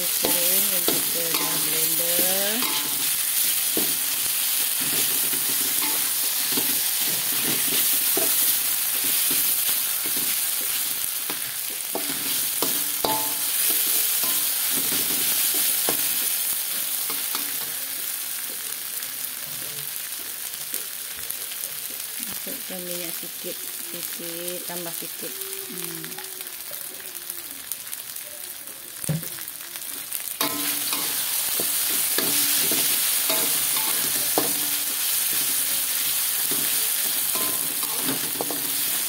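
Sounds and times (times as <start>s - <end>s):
chilli paste sizzling in oil: 0.0s - 39.0s.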